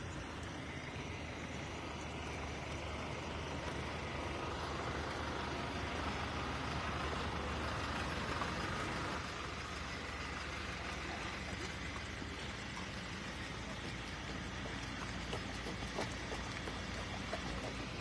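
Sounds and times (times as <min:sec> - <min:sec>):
vehicle engines idling: 0:00.0 - 0:18.0.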